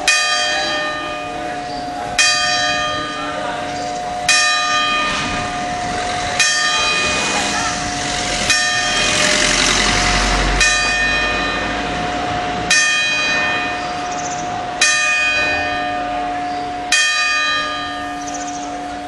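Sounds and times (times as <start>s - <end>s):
church bell striking: 0.0s - 19.0s.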